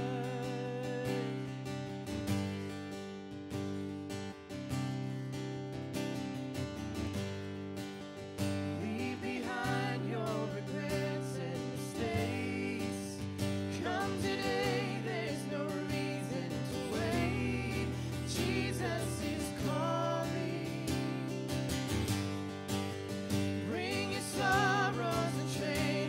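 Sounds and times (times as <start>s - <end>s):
guitar: 0.0s - 26.0s.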